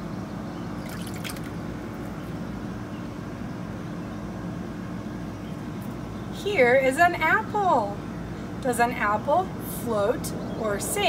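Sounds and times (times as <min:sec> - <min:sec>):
low background hum with tone: 0:00.0 - 0:11.0.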